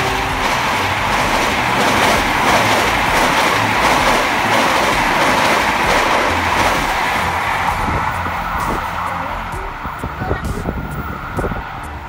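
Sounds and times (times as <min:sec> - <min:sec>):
train passing at speed: 0:00.0 - 0:12.0
wheels clattering on rails: 0:00.0 - 0:12.0.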